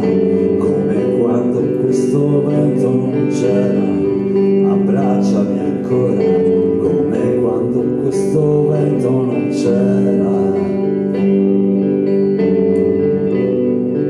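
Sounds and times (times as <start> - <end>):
electric guitar sustained chords: 0.0 - 14.0.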